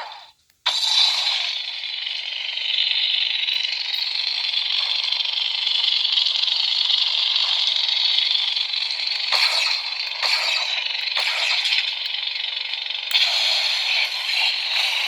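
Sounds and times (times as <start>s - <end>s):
buzzy lightsaber hum: 0.0s - 15.0s.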